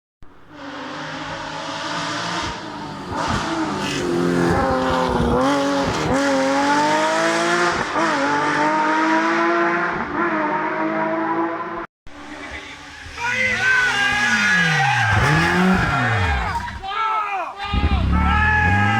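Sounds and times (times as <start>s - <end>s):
rally car engine at full throttle: 0.2s - 16.8s, 17.6s - 18.9s.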